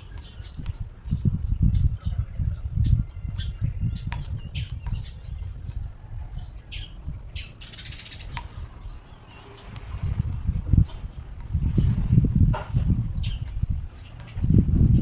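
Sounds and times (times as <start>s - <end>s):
bird chirping: 0.0s - 12.2s, 12.9s - 14.2s.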